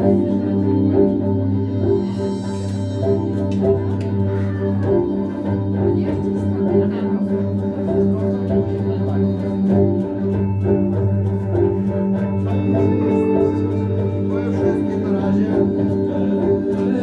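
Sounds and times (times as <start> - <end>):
steady low drone: 0.0 - 17.0
sustained organ-like chords: 0.0 - 17.0.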